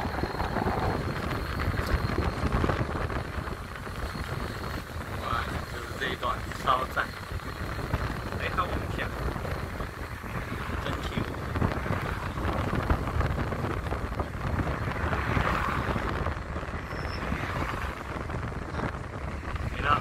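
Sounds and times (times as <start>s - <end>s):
car passing: 0.0s - 20.0s
road traffic rushing: 0.0s - 20.0s
wind noise on microphone: 0.0s - 20.0s.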